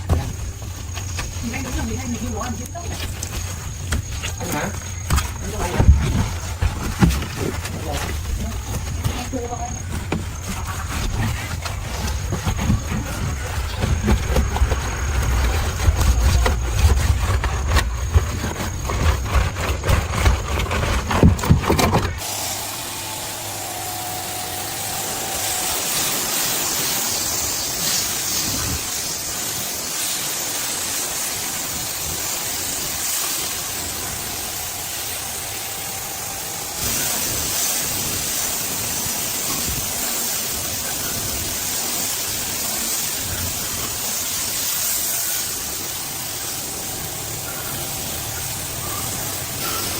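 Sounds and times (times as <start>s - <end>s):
engine running with rapid clatter: 0.0s - 49.9s
steady hissing noise: 0.0s - 49.9s.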